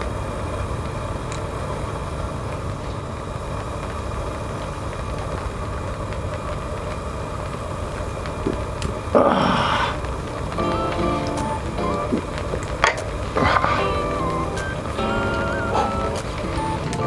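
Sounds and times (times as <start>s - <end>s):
low rumbling background noise: 0.0s - 17.0s.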